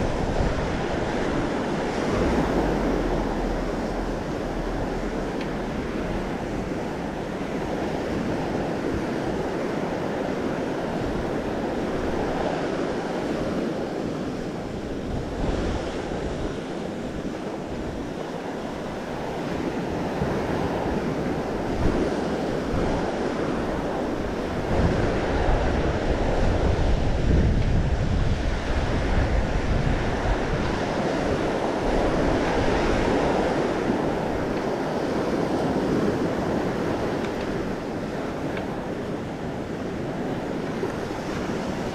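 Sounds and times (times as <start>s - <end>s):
ocean surf washing ashore: 0.0s - 41.9s
wind buffeting microphone: 0.0s - 41.9s.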